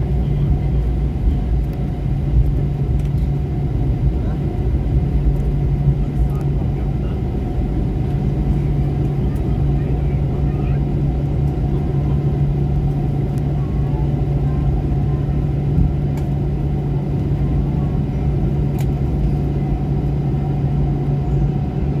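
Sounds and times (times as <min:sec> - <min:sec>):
airliner cabin rumble and hum: 0:00.0 - 0:22.0.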